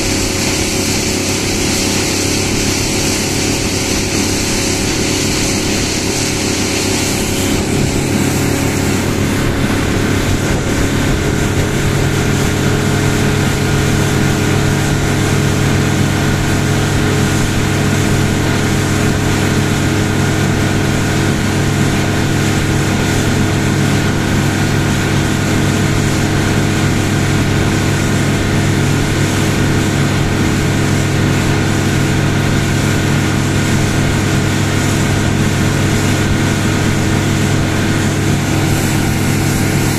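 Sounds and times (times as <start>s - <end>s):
motorboat engine running: 0.0s - 39.9s
wind and water rushing: 0.0s - 39.9s.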